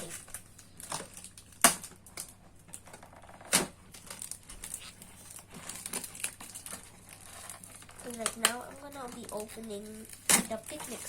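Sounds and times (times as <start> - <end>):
tape crackling off packaging: 0.0 - 11.0.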